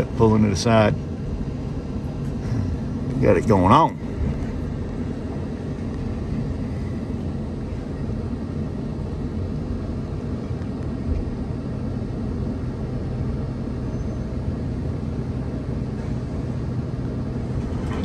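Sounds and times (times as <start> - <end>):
machinery engine rumble: 0.0 - 18.0.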